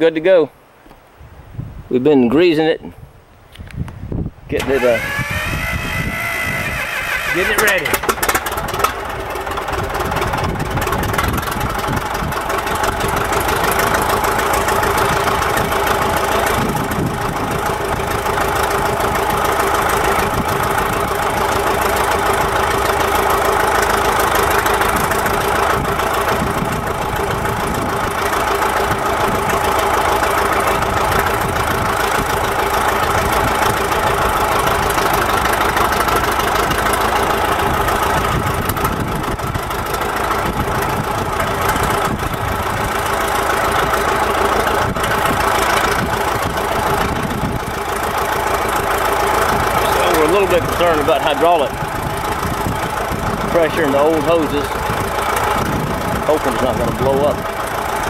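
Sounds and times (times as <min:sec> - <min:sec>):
bulldozer diesel engine running: 0:04.5 - 0:58.0.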